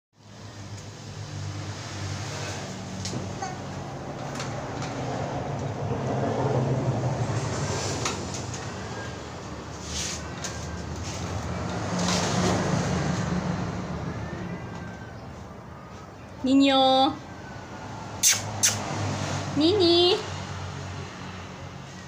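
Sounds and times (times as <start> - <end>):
road traffic rumble: 0.2 - 22.0.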